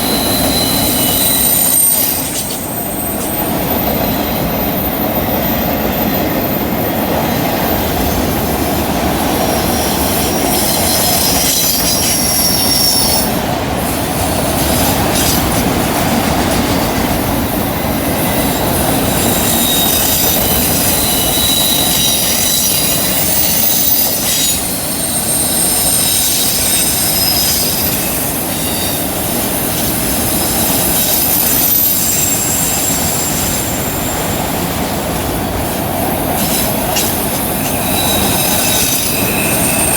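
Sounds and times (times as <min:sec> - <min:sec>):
train wheels squealing: 0:00.0 - 0:15.7, 0:16.6 - 0:39.9
train cars rumbling on rails: 0:00.0 - 0:39.9.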